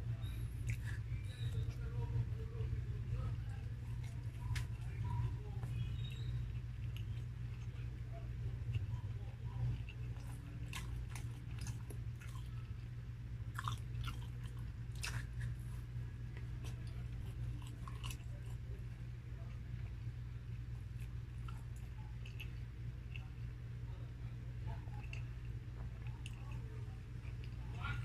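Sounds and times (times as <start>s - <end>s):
steady low hum: 0.0s - 28.0s
person chewing with wet smacks: 0.1s - 23.6s, 24.6s - 28.0s.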